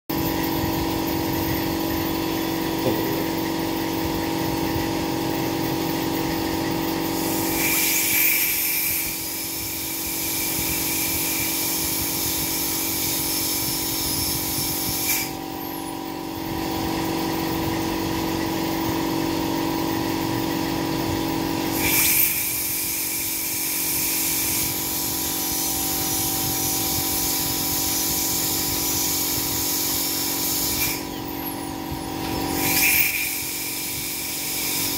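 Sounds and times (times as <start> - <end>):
dental drill whining: 0.1 - 20.1, 20.7 - 34.9
steady hum: 0.1 - 34.9.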